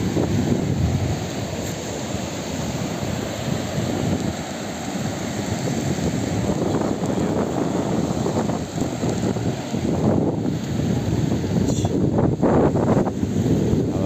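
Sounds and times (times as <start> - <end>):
rough surf breaking: 0.0 - 14.0
wind buffeting microphone: 0.0 - 14.0.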